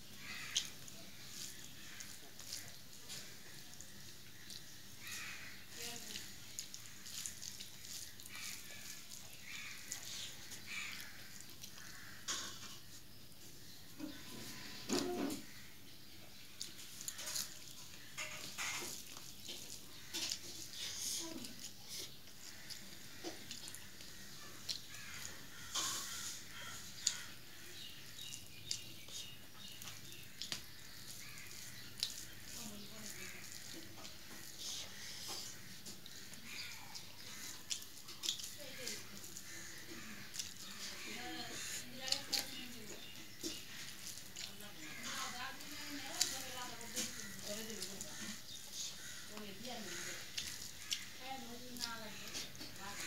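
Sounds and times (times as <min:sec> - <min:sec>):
wet chewing and lip-smacking: 0:00.0 - 0:12.1, 0:16.2 - 0:53.0.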